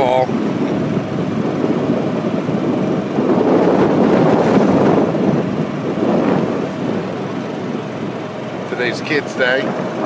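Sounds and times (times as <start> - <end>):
vehicle driving on paved road: 0.0 - 10.0.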